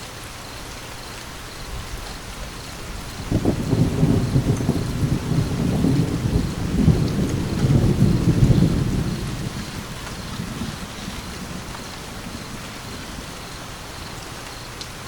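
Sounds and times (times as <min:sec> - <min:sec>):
steady rain falling: 0:00.0 - 0:15.0
thunder rumbling: 0:01.9 - 0:14.4.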